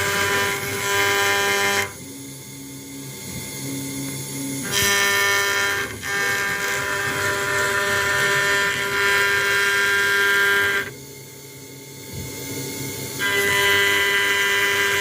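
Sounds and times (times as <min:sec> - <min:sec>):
cnc router high-pitched whine: 0:00.0 - 0:15.0.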